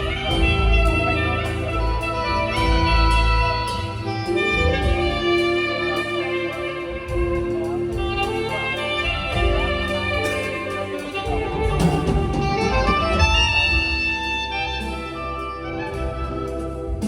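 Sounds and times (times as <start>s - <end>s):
live band accompaniment: 0.0s - 17.0s
saxophone duet: 0.0s - 17.0s
steady bass line: 0.0s - 17.0s.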